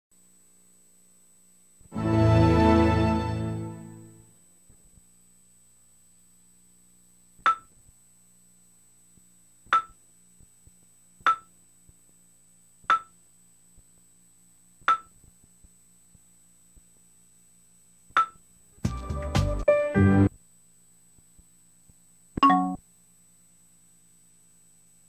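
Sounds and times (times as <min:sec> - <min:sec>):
faint steady hum: 0:00.1 - 0:18.9, 0:19.6 - 0:25.0.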